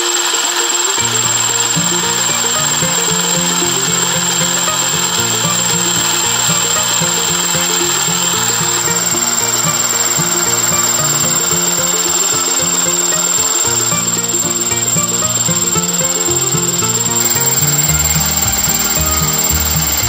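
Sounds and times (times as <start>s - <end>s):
model engine high whine: 0.0s - 20.0s
background music: 1.0s - 20.0s.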